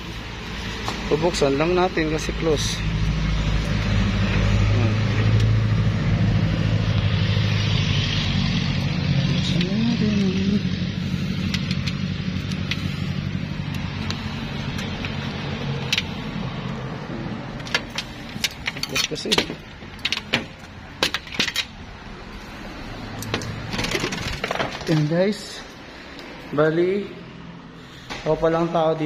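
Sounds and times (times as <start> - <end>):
vehicle engine running: 0.0 - 24.9.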